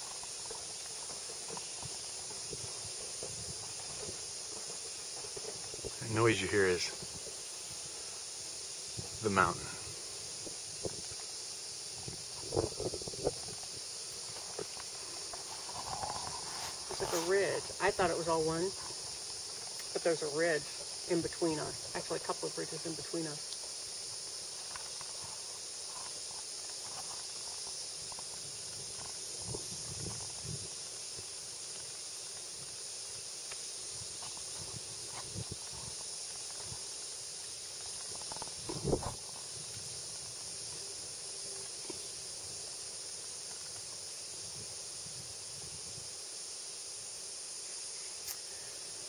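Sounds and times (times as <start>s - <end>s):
rocks tumbling with rumbles: 0.0s - 22.8s, 23.6s - 44.6s
insects chirring: 0.0s - 49.0s.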